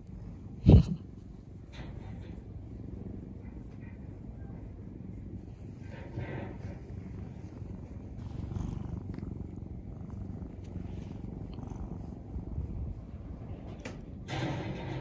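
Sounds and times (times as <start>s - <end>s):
cat purring: 0.0s - 15.0s
faint fur rustles: 0.0s - 15.0s.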